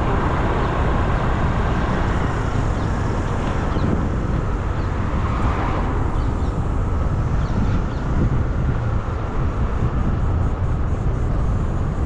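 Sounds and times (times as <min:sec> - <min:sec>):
motorbike rumble and road noise: 0:00.0 - 0:12.0
wind buffeting microphone: 0:00.0 - 0:12.0.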